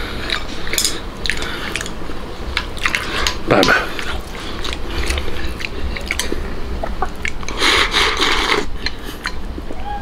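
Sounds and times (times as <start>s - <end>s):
close-miked eating: 0.0s - 10.0s.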